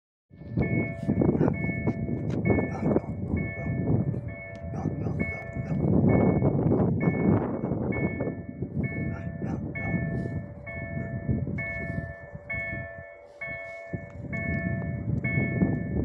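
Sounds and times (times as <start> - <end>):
level crossing warning bell: 0.4 - 16.0.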